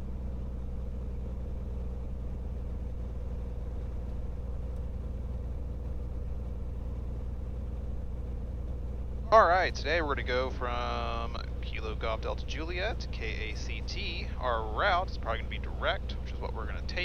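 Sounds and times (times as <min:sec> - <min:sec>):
aircraft engine and propeller idling: 0:00.0 - 0:17.0.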